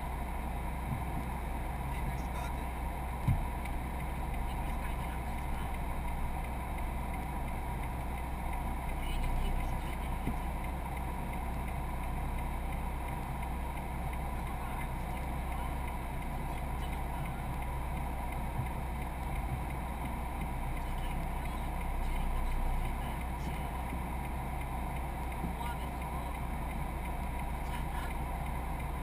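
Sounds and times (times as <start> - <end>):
car cabin road noise: 0.0 - 29.0.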